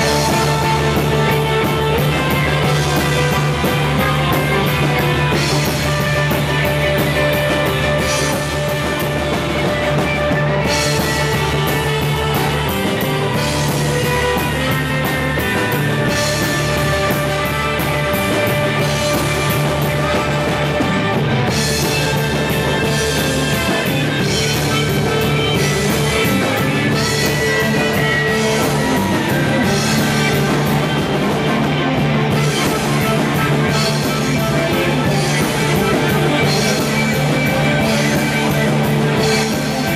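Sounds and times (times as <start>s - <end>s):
cymbals: 0.0s - 39.9s
drums: 0.0s - 39.9s
electric guitar: 0.0s - 39.9s.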